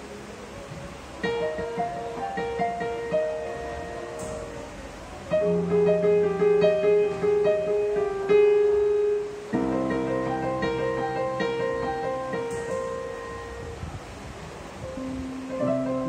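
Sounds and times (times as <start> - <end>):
electronic keyboard melody: 0.0 - 13.8, 14.8 - 16.0
held low keyboard chord: 1.2 - 13.8, 14.8 - 16.0.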